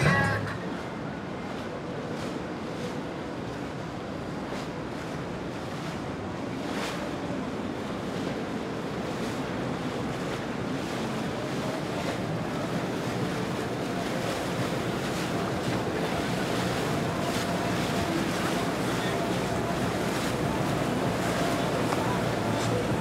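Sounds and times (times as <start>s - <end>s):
boat engine running low: 0.0s - 23.0s
water washing: 0.0s - 23.0s.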